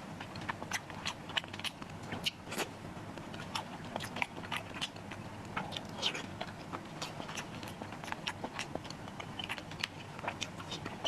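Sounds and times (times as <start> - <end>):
person biting and chewing food: 0.2 - 11.0.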